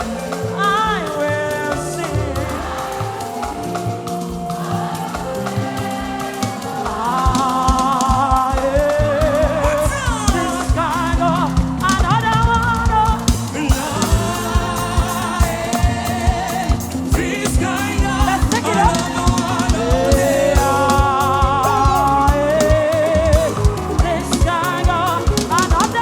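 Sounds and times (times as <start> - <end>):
band with drum kit playing: 0.0 - 26.0
person singing gospel: 0.0 - 26.0.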